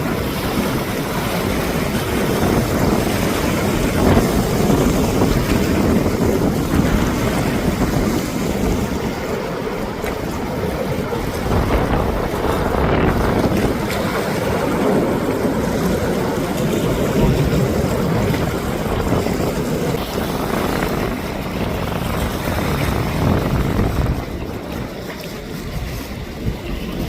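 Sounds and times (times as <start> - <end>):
jet engines roaring: 0.0 - 27.0
wind buffeting microphone: 0.0 - 27.0.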